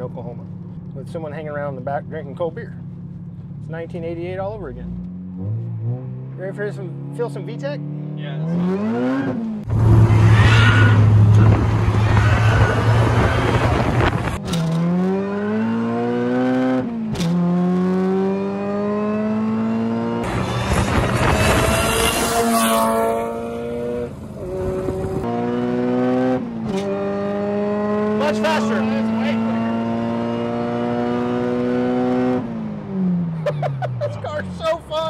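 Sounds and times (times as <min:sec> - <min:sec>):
car engine at full throttle: 0:00.0 - 0:35.0.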